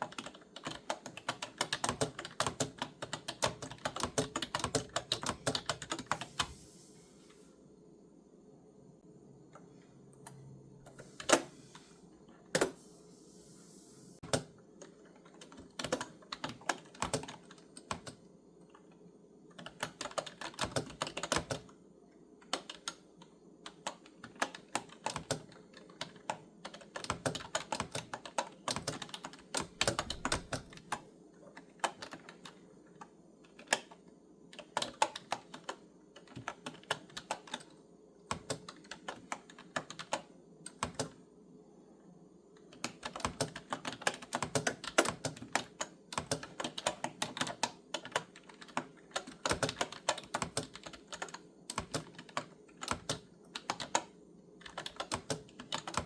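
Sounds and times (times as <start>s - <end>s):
clicky computer keyboard typing: 0.0s - 6.5s, 14.2s - 21.8s, 22.4s - 41.3s, 42.5s - 56.0s.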